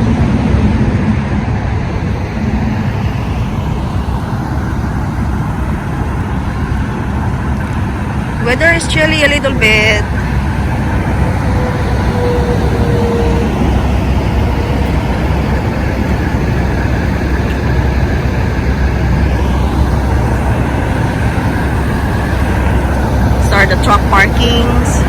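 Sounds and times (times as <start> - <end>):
road traffic and truck engines rumbling: 0.0 - 25.0.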